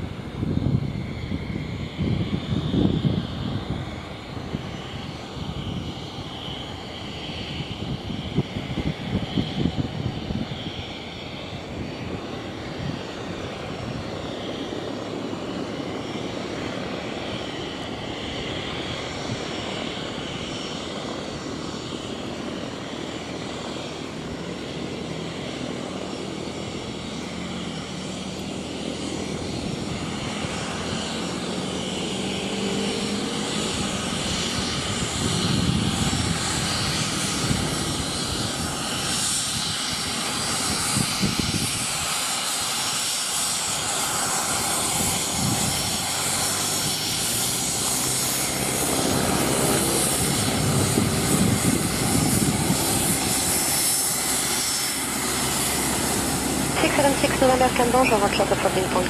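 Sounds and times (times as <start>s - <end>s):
jet engines taxiing: 0.0s - 59.0s.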